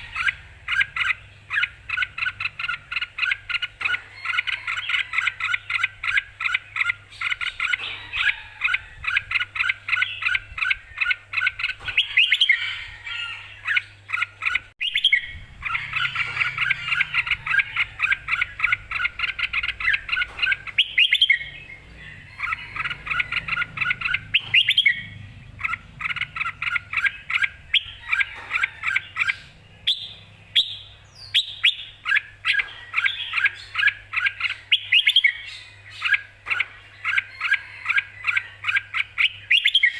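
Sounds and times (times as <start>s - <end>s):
bird calling in bright notes: 0.0s - 39.9s.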